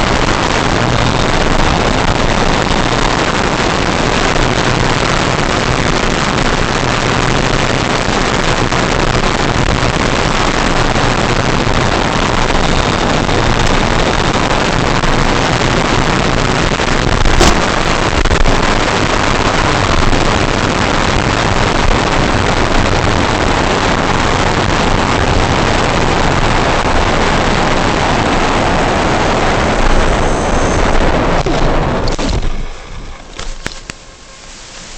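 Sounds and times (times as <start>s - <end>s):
rushing wind: 0.0s - 34.9s.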